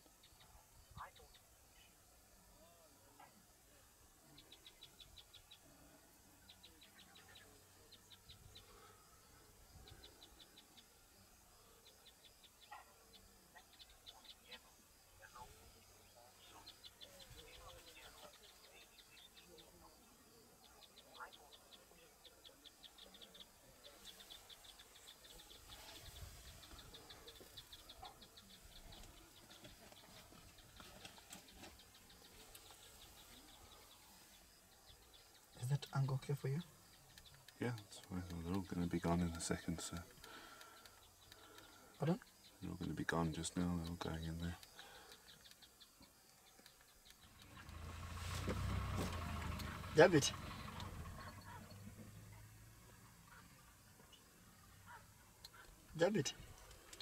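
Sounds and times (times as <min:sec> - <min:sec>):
bird chirping: 0:04.2 - 0:57.0.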